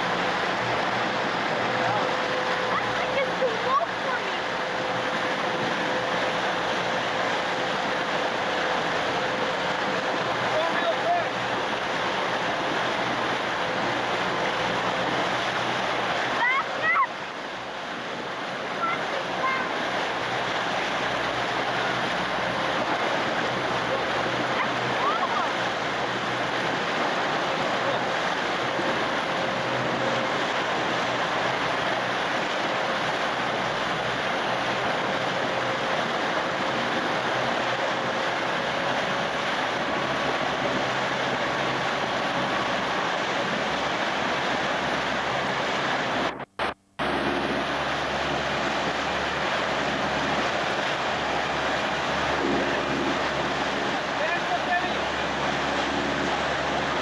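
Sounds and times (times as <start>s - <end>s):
wind and water rushing: 0.0s - 57.0s.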